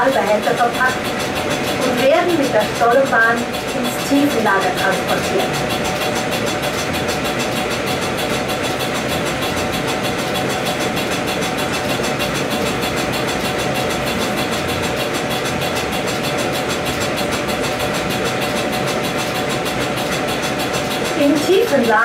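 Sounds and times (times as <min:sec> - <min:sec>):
mechanical rumble and hum: 0:00.0 - 0:22.0.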